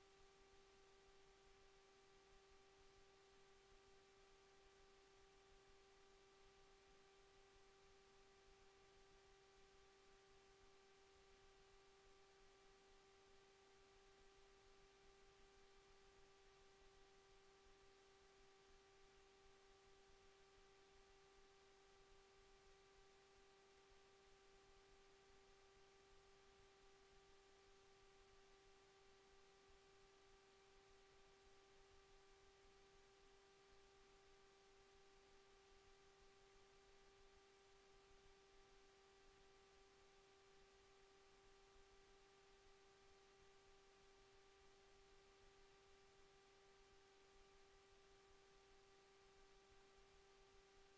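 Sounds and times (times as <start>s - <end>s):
faint steady hum: 0.0s - 50.9s
low hiss: 0.0s - 50.9s.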